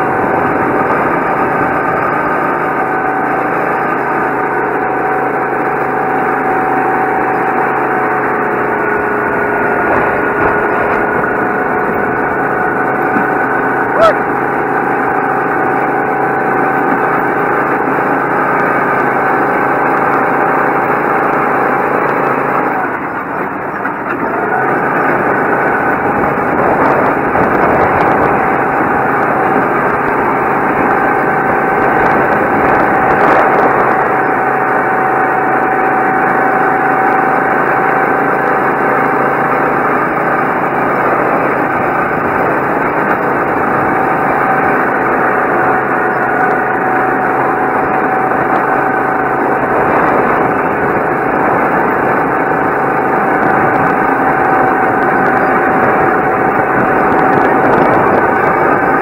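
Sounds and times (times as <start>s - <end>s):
go-kart engine droning: 0.0s - 59.0s.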